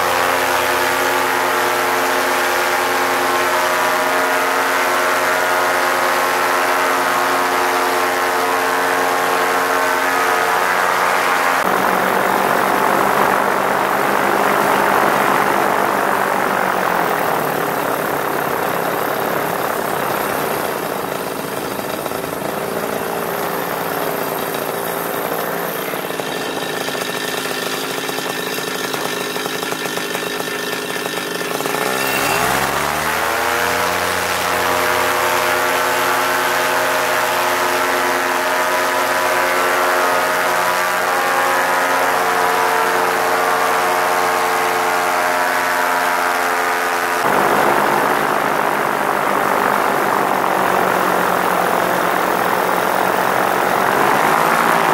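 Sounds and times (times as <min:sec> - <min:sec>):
paramotor engine and propeller: 0:00.0 - 0:54.9.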